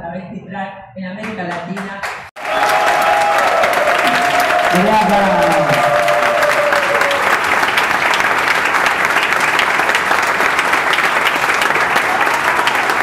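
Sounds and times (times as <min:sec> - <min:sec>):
audience applauding: 0:02.0 - 0:13.0.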